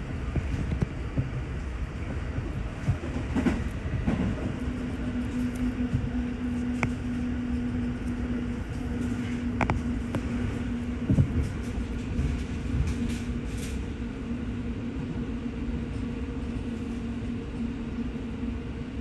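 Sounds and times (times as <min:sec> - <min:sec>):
steady hum: 0:00.0 - 0:19.0
train wheels rumbling on track: 0:00.0 - 0:19.0.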